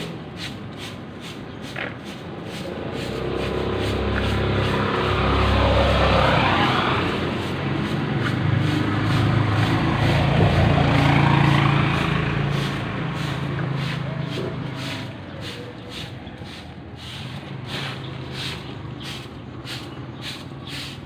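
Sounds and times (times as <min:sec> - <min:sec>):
traffic passing: 0:00.0 - 0:21.0.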